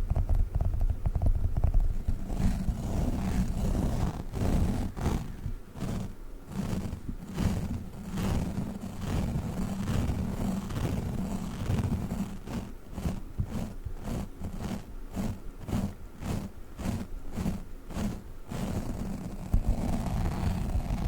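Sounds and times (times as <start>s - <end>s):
sticky crackling: 1.6s - 21.0s.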